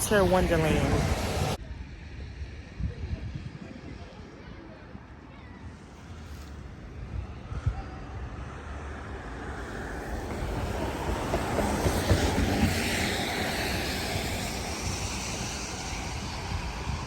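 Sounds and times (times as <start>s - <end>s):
wind buffeting microphone: 0.0s - 4.3s, 6.6s - 17.0s.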